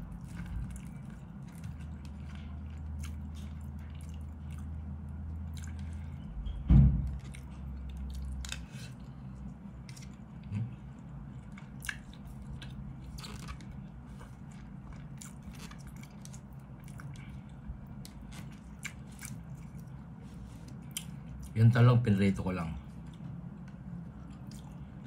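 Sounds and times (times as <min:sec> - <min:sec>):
man chewing food: 0:00.0 - 0:21.6, 0:22.8 - 0:25.0.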